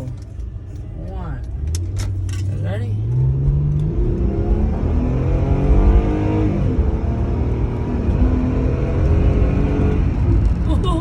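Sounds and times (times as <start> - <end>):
car engine accelerating hard: 1.6 - 10.7.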